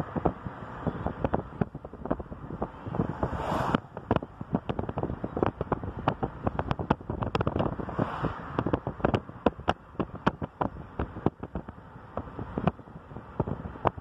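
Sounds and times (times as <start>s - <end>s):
car rumble: 0.0s - 14.0s
wind and handling crackles: 0.0s - 14.0s.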